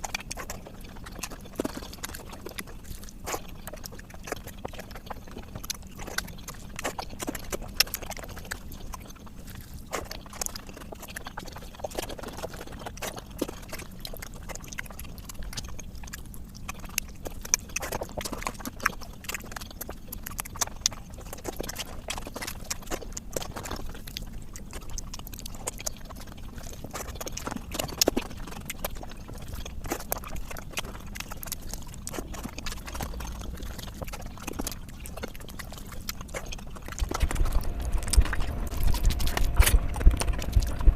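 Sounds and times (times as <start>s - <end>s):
person chewing with mouth clicks: 0.0s - 40.9s.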